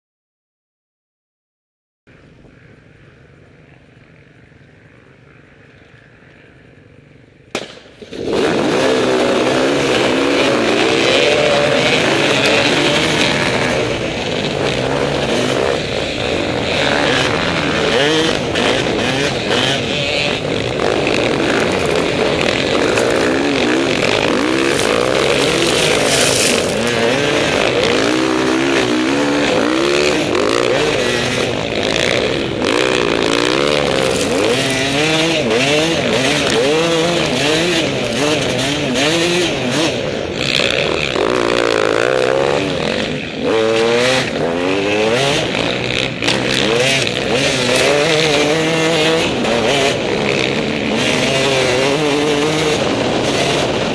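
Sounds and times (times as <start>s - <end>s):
other dirt bike engines: 2.1s - 53.9s
dirt bike engine revving: 7.6s - 53.9s.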